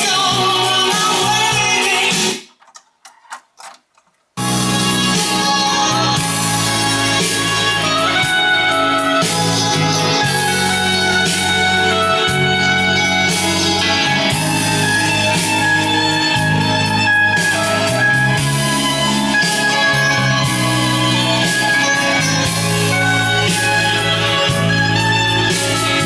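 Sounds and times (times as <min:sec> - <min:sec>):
guitar-led music: 0:00.0 - 0:02.3, 0:04.4 - 0:26.0.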